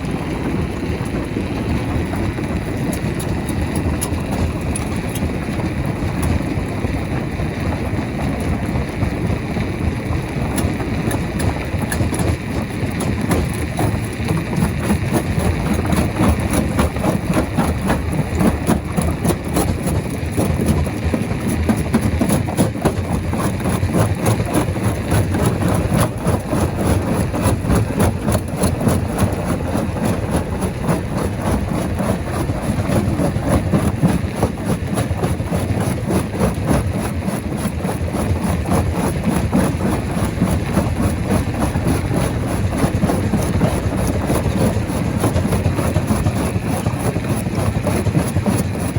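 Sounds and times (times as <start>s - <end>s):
rapid clatter of knocks: 0.0s - 48.9s
rock crusher engine drone: 0.0s - 48.9s.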